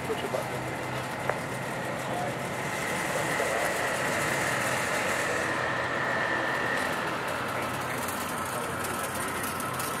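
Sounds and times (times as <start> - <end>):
car engines running: 0.0 - 10.0.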